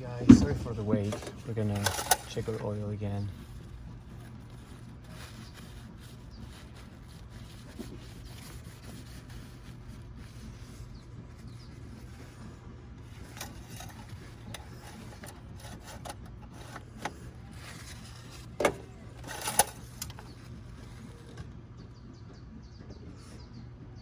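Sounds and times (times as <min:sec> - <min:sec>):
light clicks and rubbing: 0:00.0 - 0:21.5
steady low hum: 0:00.0 - 0:24.0.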